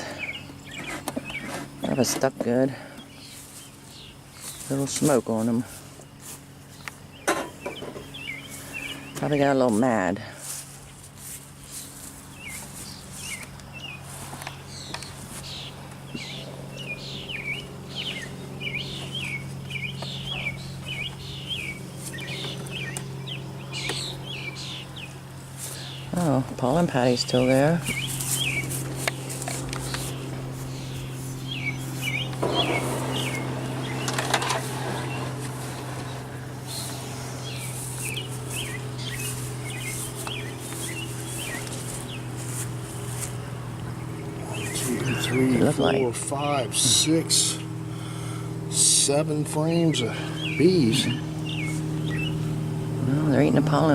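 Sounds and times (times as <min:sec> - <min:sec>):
songbird chirping: 0:00.0 - 0:47.9, 0:48.7 - 0:53.9
steady low hum: 0:00.0 - 0:53.9.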